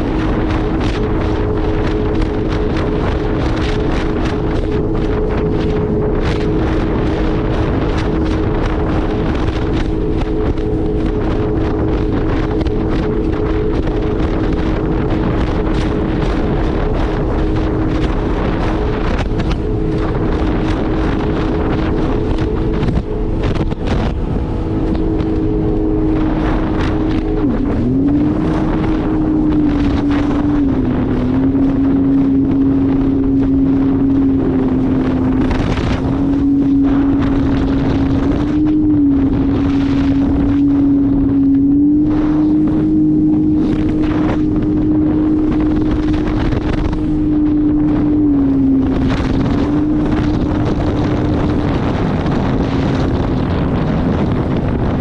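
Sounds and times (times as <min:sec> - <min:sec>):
jet ski engine running: 0:00.0 - 0:55.0
wind buffeting microphone: 0:00.0 - 0:55.0.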